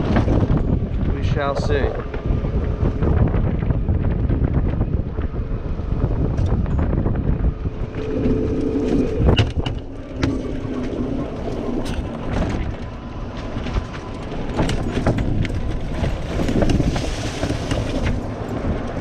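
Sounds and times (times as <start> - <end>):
golf cart rumbling: 0.0 - 19.0
knocks and rattles over bumps: 0.0 - 19.0
steady hum: 0.0 - 19.0
wind buffeting microphone: 0.0 - 19.0.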